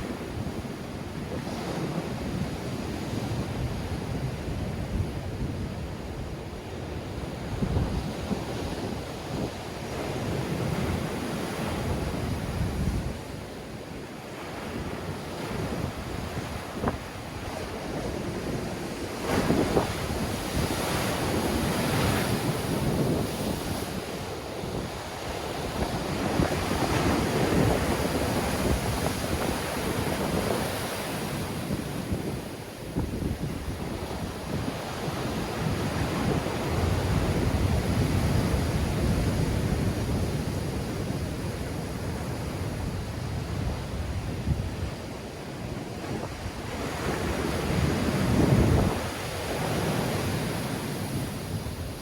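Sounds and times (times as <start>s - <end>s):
wind buffeting microphone: 0.0s - 13.8s, 14.4s - 52.0s
sea waves breaking on shore: 0.0s - 52.0s.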